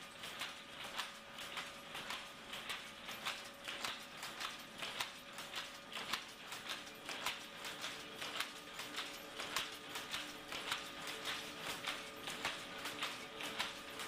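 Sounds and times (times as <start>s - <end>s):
textile machinery clattering: 0.0s - 14.0s.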